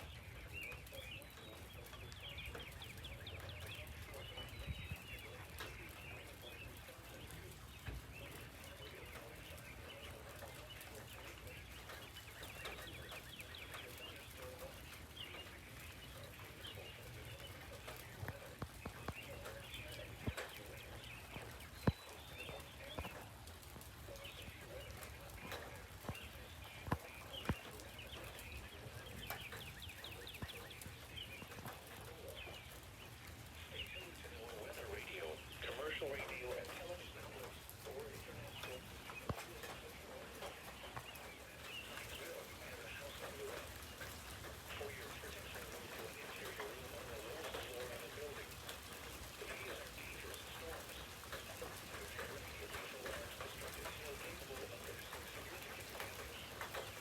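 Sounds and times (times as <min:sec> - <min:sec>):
birds chirping: 0:00.0 - 0:57.0
steady background noise: 0:00.0 - 0:57.0.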